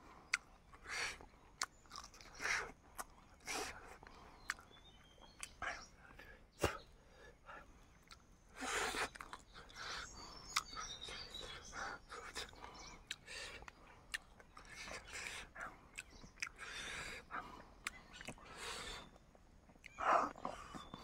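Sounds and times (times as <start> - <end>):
chewing and lip smacking: 0.3 - 5.9, 7.9 - 8.3, 8.9 - 21.0.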